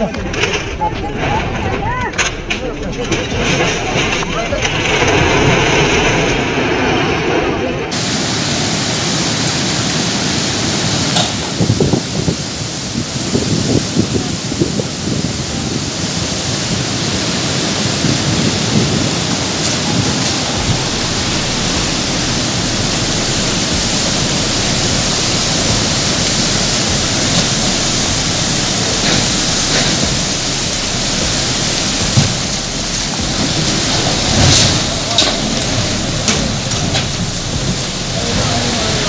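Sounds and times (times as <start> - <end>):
floodwater rushing in river: 0.0 - 39.0.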